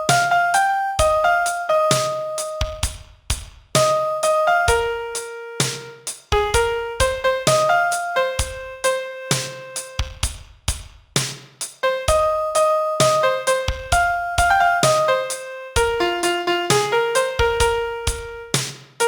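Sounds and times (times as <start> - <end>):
piano playing slow melody: 0.0 - 3.0, 3.8 - 10.2, 11.8 - 18.6.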